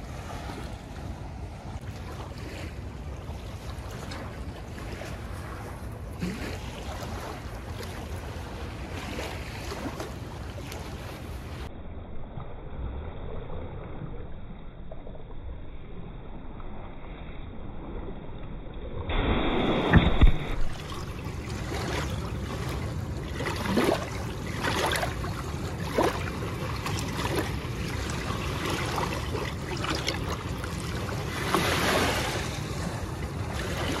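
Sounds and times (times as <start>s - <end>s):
water splashes: 0.0s - 11.7s, 17.7s - 34.0s
moving water: 0.0s - 34.0s.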